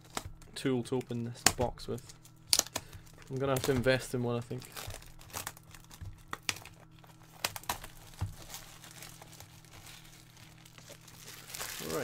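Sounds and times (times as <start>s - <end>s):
plastic wrap crinkling and tearing: 2.2s - 12.0s.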